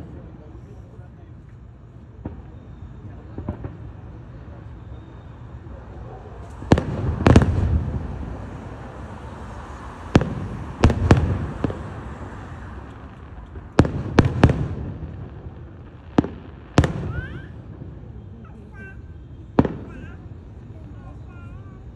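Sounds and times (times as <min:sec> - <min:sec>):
fireworks bursting with bangs: 0:01.6 - 0:21.9.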